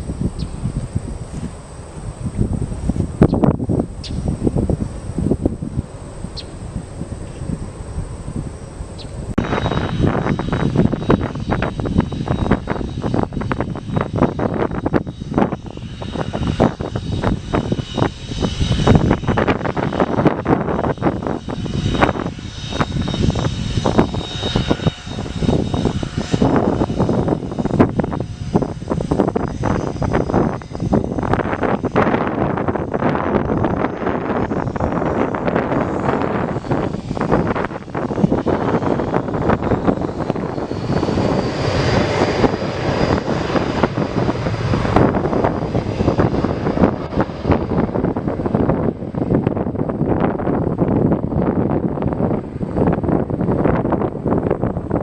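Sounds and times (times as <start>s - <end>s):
high jet whine: 0.0s - 55.0s
rough jet engine roar: 0.0s - 55.0s
wind buffeting microphone: 0.0s - 55.0s.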